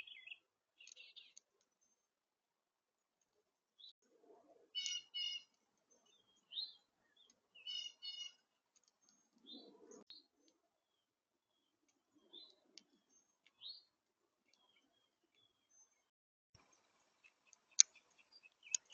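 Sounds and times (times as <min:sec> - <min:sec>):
wild birds chirping: 0:00.0 - 0:02.2, 0:03.7 - 0:18.9.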